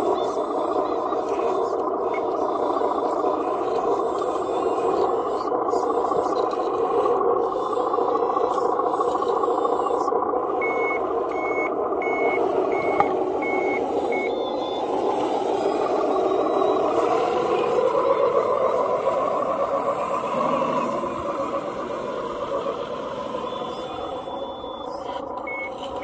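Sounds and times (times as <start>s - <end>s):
diesel engine sound: 0.0s - 26.0s
reversing alarm beeping: 0.0s - 26.0s.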